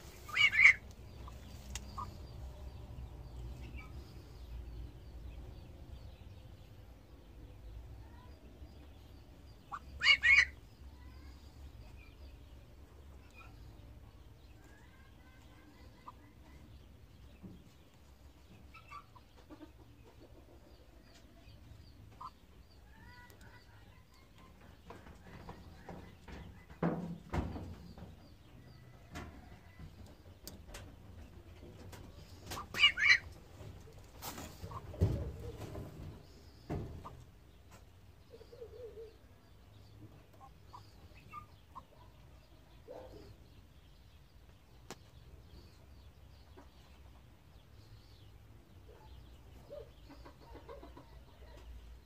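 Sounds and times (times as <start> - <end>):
poultry clucking and chirping: 0.0 - 52.0.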